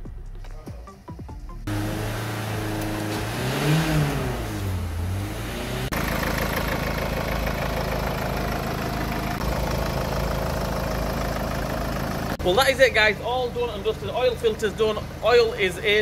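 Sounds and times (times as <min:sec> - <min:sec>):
diesel engine starting and idling: 0:01.5 - 0:16.0.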